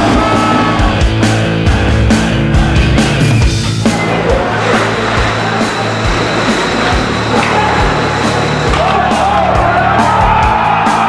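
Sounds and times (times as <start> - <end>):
hard rock music: 0.0 - 11.0
heavy drum beat: 0.0 - 11.0.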